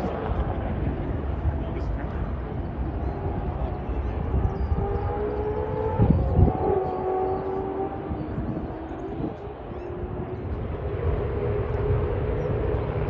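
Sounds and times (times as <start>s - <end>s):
distant race car engines: 0.0s - 13.0s.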